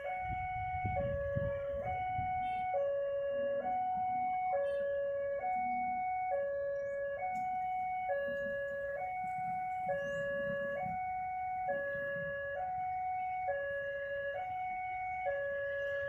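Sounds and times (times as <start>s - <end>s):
two-tone crossing alarm: 0.0s - 16.0s.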